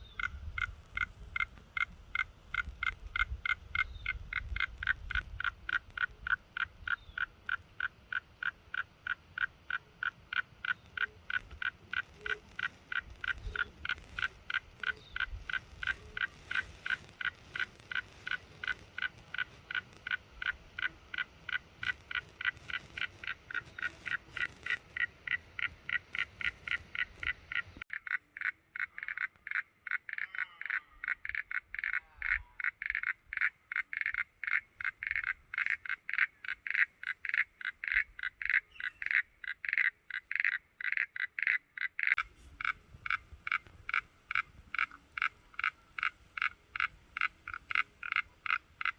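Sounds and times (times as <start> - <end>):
faint background noise: 0.0 - 40.9.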